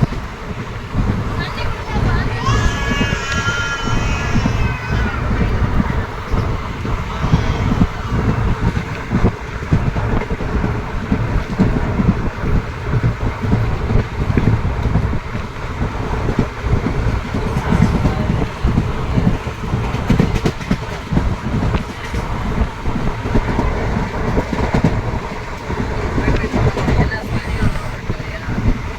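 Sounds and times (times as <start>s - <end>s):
train rumbling on track: 0.0s - 28.9s
wheels knocking and thumping: 0.0s - 28.9s.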